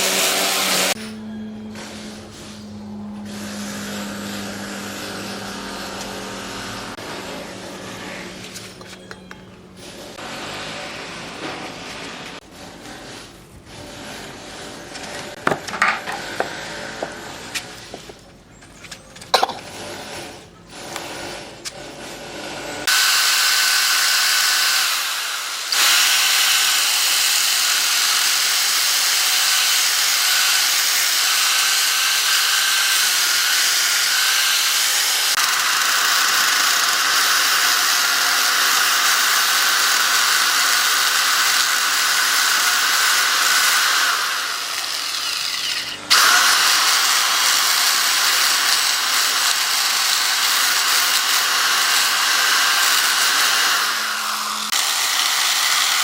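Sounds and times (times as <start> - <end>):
power tool whining on wood: 0.0 - 56.0.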